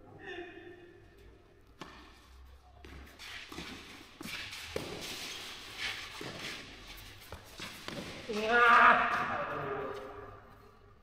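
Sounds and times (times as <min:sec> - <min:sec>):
shoes scuffing on clay court: 0:01.6 - 0:10.7.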